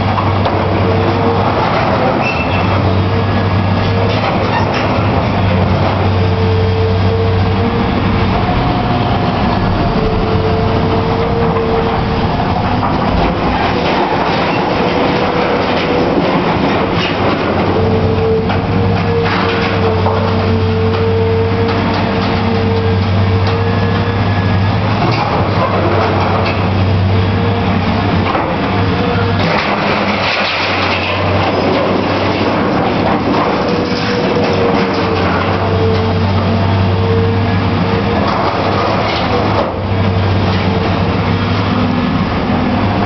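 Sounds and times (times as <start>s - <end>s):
excavator running with hydraulic whine: 0.0s - 43.0s.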